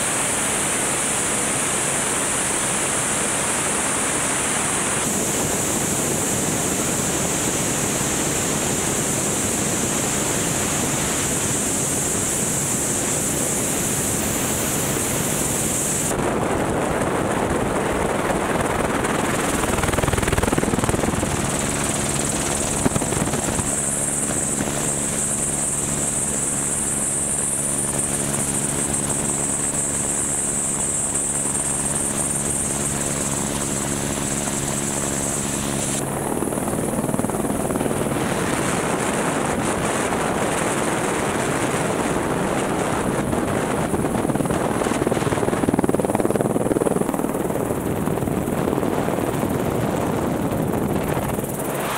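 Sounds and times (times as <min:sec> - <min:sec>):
helicopter rushing noise: 0:00.0 - 0:51.9
multi-tone hum and high whine: 0:00.0 - 0:51.9.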